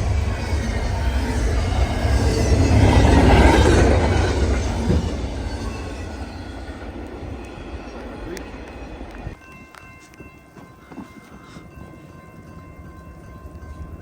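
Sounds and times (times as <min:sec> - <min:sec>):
train passing by: 0:00.0 - 0:14.0.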